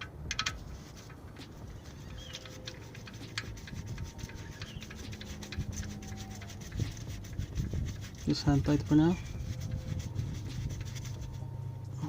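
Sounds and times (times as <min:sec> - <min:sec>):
metallic clicks and scraping: 0:00.0 - 0:12.0.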